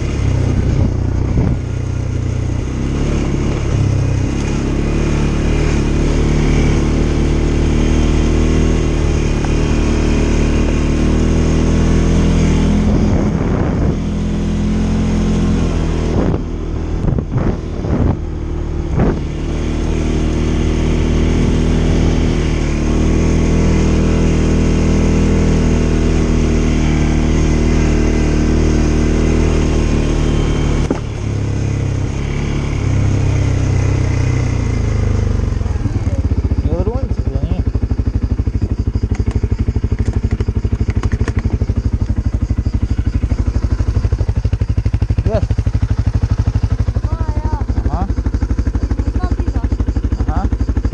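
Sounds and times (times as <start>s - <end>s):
atv engine running under load: 0.0s - 50.9s.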